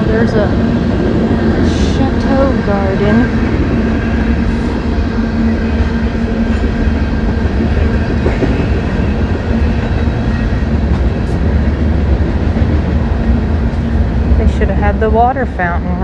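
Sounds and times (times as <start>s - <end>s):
engine hum: 0.0s - 16.0s
train rumbling past: 0.0s - 16.0s.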